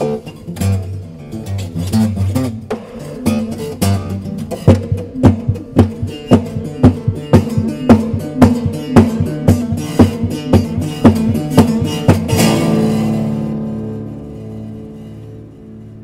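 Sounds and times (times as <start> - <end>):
acoustic bass strumming: 0.0 - 16.0.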